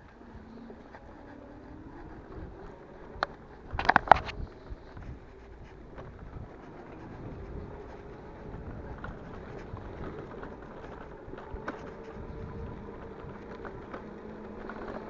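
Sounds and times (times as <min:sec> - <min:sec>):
electric motor whine: 0:00.0 - 0:15.0
small rattles and clicks: 0:00.5 - 0:15.0
bike tyres rumbling on dirt: 0:01.0 - 0:15.0.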